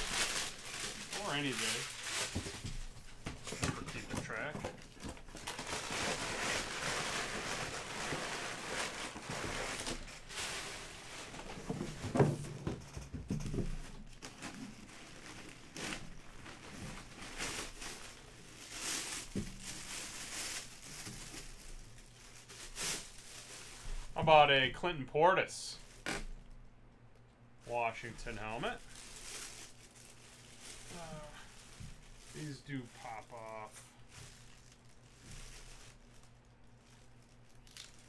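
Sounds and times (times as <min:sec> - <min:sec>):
cloth and plastic bag crinkling: 0:00.0 - 0:12.4, 0:14.0 - 0:24.2, 0:28.3 - 0:38.0
packing paper rustling: 0:00.0 - 0:24.2, 0:28.2 - 0:38.0.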